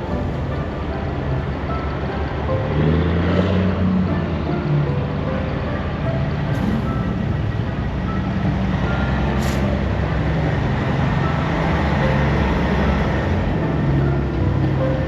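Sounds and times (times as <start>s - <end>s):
truck engines rumbling: 0.0s - 15.0s.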